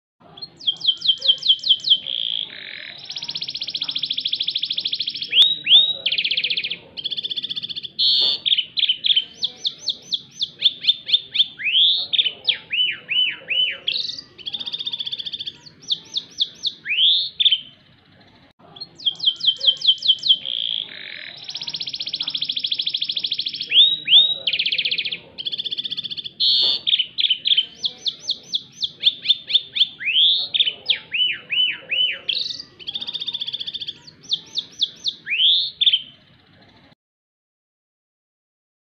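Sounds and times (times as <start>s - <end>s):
canary singing trills: 0.2s - 37.0s.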